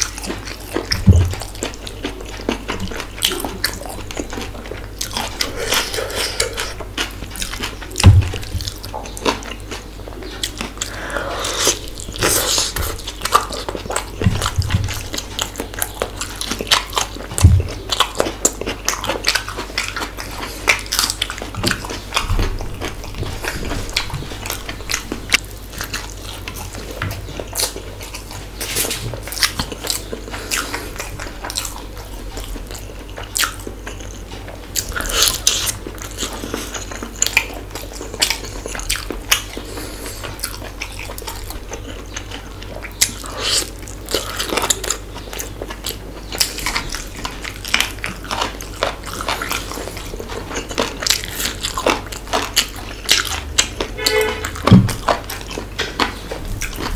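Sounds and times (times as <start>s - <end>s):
man chewing: 0.0s - 56.9s.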